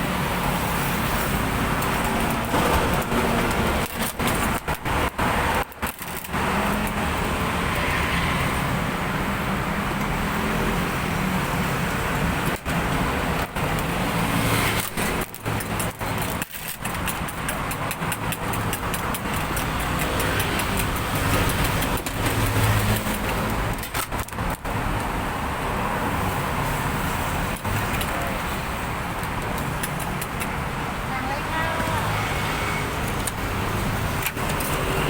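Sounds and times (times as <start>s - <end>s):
road traffic passing cars: 0.0s - 35.0s.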